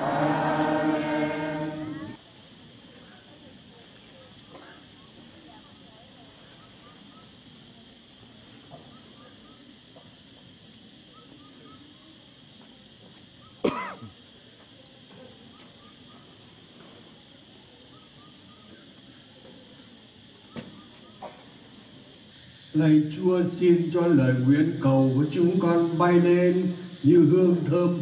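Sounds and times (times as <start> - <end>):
insects chirping: 0.0 - 28.0.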